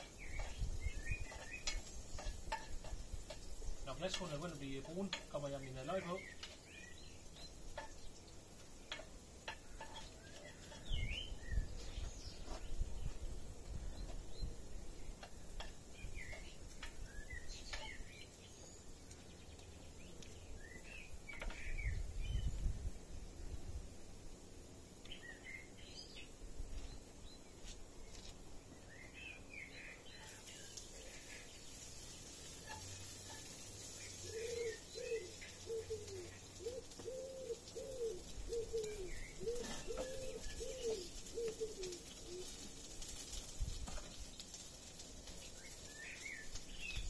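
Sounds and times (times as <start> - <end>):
small birds chirping: 0.0 - 23.4, 25.0 - 47.0
faint steady hiss: 0.0 - 47.0.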